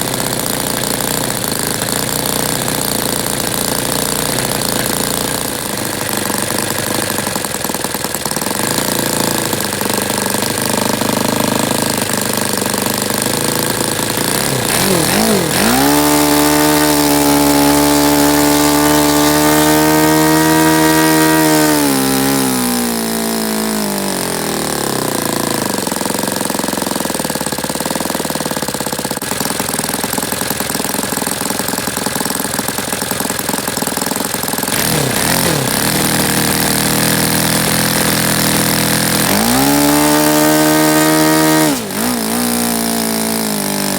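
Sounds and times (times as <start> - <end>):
model aircraft engine running: 0.0 - 43.9.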